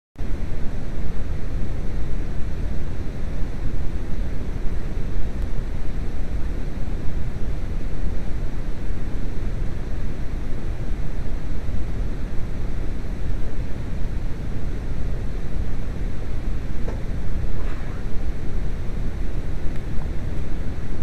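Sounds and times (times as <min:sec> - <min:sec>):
steady masking noise: 0:00.3 - 0:21.0.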